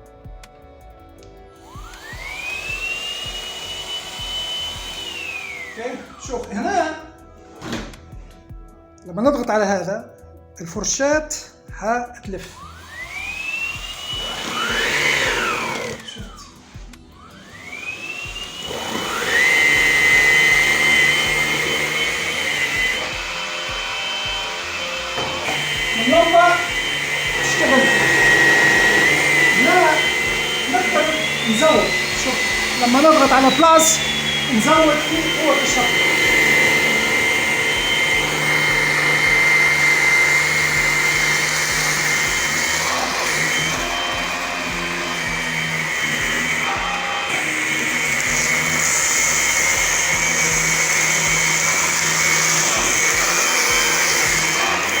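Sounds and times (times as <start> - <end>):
cordless vacuum running: 1.4 - 7.0, 12.4 - 55.0
motor spinning up with rising whine: 1.5 - 6.2, 12.5 - 55.0.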